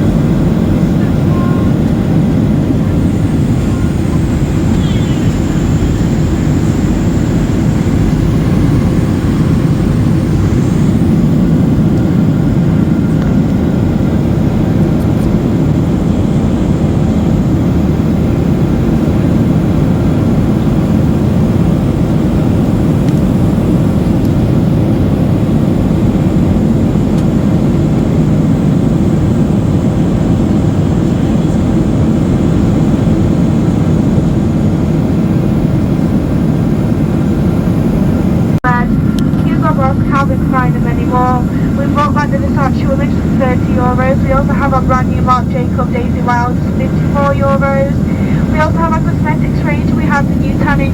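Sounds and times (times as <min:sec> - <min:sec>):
airplane cabin engine drone: 0:00.0 - 0:50.9.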